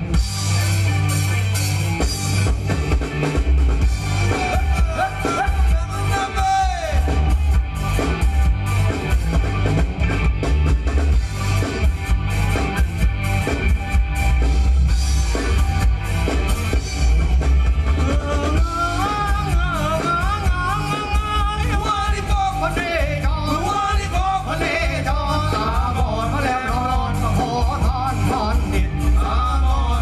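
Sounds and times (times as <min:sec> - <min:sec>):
live band dance music: 0:00.0 - 0:30.0.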